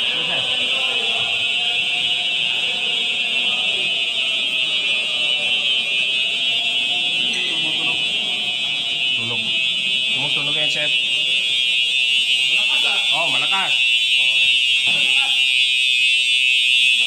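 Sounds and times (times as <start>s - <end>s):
fire alarm sounder: 0.0s - 17.0s.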